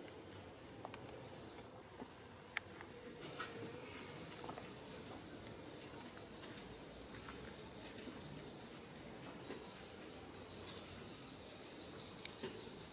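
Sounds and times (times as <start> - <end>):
steady background hiss: 0.0 - 12.9.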